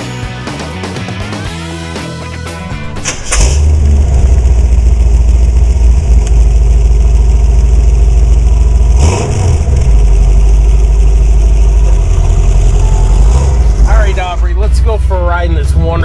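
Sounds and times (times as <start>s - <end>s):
car engine running deep: 2.6s - 16.0s.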